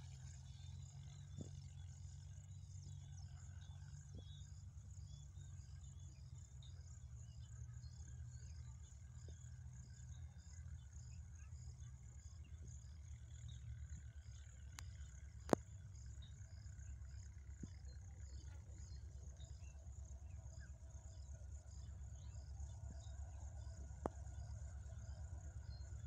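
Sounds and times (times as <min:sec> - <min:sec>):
insects chirping: 0:00.1 - 0:26.0.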